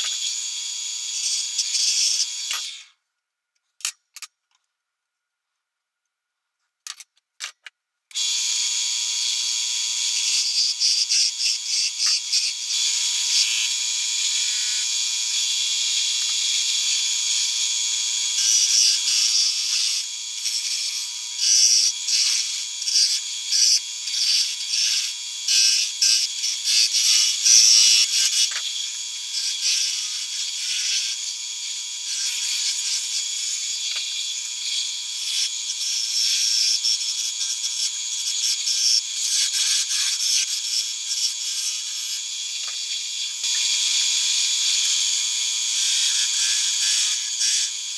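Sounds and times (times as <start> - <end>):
wood lathe whine: 0.0 - 2.9, 8.1 - 47.9.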